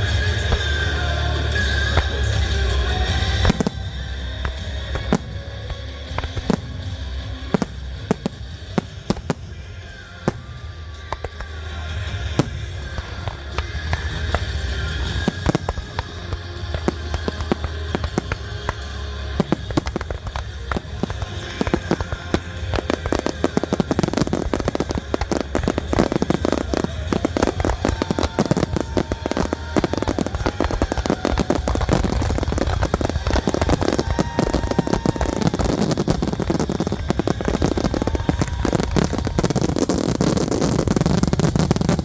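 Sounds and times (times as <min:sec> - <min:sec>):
fireworks bursting and crackling: 0:00.0 - 0:42.0
show music with steady bass: 0:00.0 - 0:42.0.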